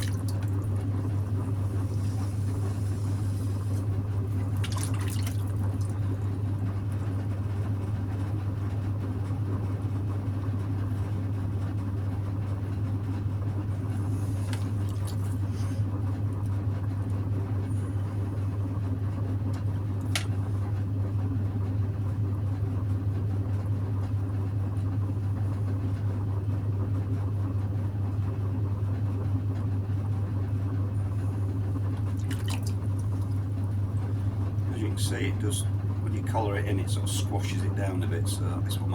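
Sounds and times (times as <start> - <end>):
potter's wheel humming: 0.0 - 38.9.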